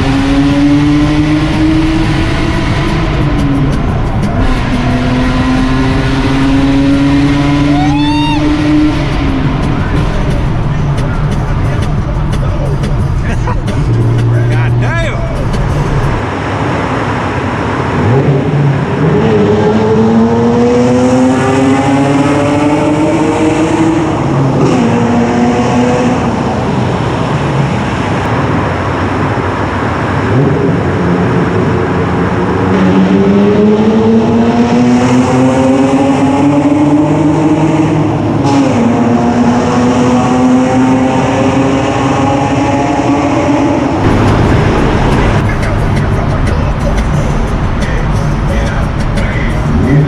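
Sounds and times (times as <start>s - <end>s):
car engine revving through gears: 0.0s - 14.6s, 17.6s - 28.3s, 30.2s - 46.4s.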